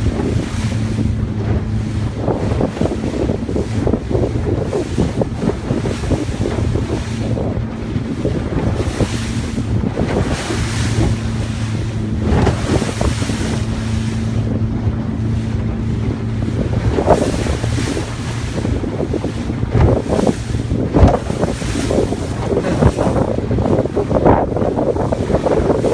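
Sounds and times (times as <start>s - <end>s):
boat engine hum: 0.0s - 25.9s
water rushing and splashing: 0.0s - 25.9s
wind buffeting microphone: 0.0s - 25.9s.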